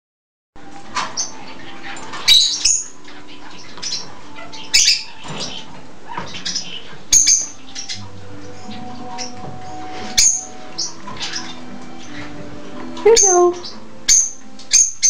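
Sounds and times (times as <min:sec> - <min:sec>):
budgerigars chirping and squawking: 0:00.6 - 0:15.0
sharp bird calls: 0:01.1 - 0:15.0.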